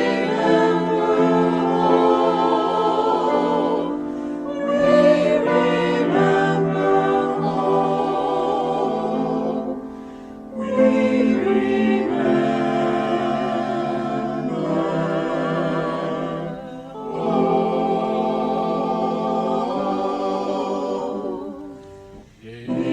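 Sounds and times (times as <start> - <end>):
choir singing held chords: 0.0 - 22.9.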